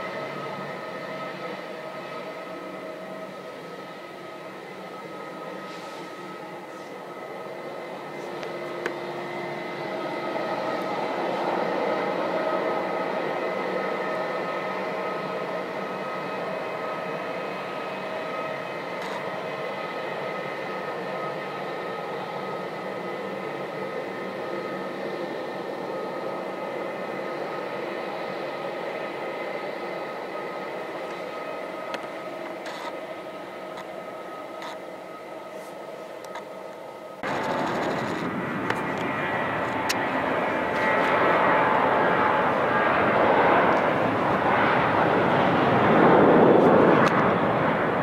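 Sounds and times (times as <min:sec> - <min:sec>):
jet engines whining: 0:00.0 - 0:48.0.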